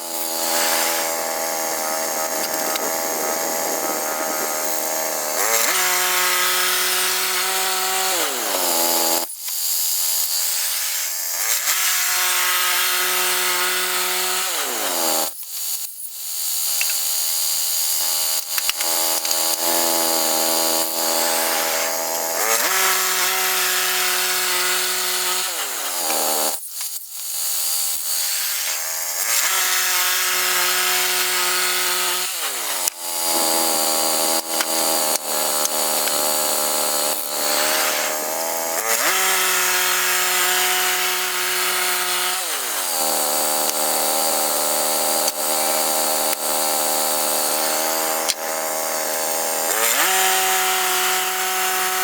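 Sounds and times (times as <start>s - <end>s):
band sawmill cutting log: 0.0s - 15.4s, 16.8s - 52.0s.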